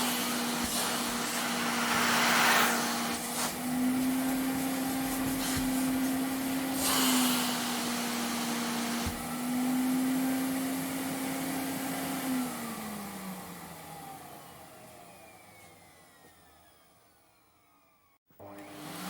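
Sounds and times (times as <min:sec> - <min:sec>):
vacuum cleaner motor: 0:00.0 - 0:19.0.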